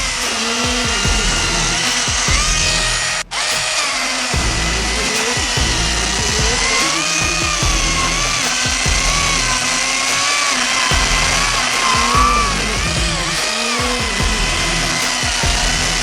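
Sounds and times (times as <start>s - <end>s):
electric chainsaw cutting wood: 0.0s - 16.0s.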